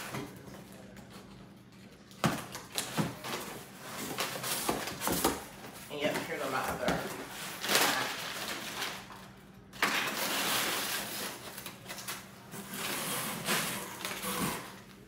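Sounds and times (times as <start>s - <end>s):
packing paper rustling: 0.0s - 15.0s.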